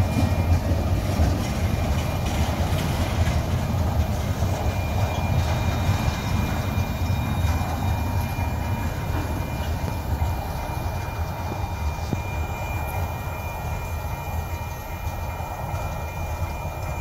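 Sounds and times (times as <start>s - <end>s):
high whine: 0.0s - 17.0s
train wheels rumbling on track: 0.0s - 17.0s.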